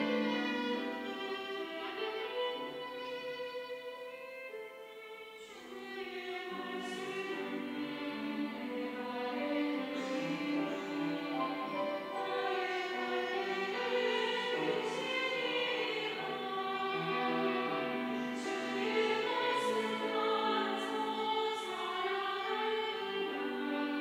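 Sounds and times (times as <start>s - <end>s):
church choir singing: 0.0s - 2.9s, 5.4s - 24.0s.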